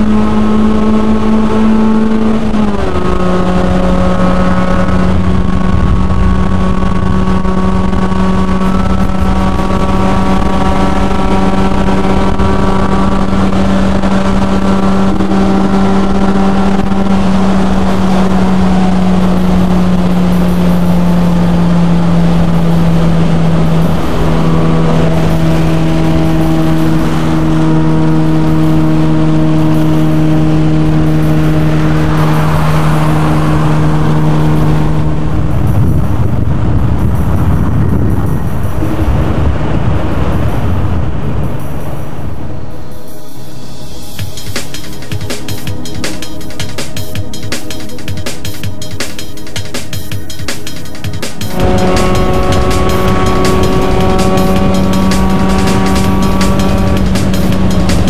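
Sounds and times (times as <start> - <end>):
car engine droning: 0.0 - 58.0
tyre and road noise: 0.0 - 58.0.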